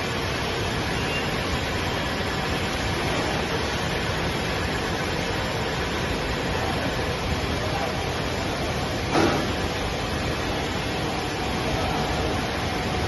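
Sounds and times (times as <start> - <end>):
machinery running: 0.0 - 13.0.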